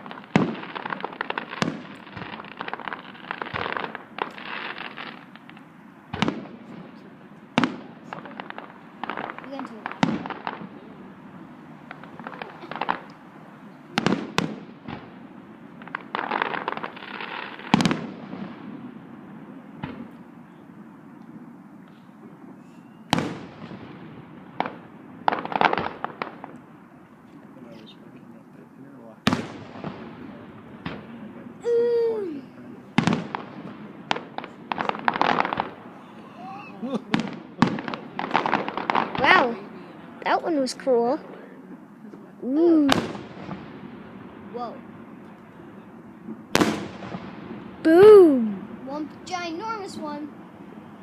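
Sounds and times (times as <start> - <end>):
fireworks bangs: 0.0 - 51.0
fireworks crackling: 0.0 - 51.0.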